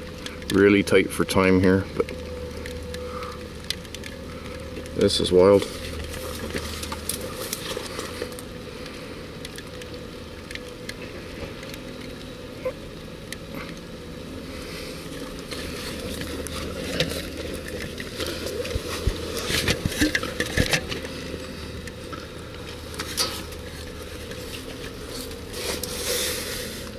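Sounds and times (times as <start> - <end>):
large engine idling: 0.0 - 26.9.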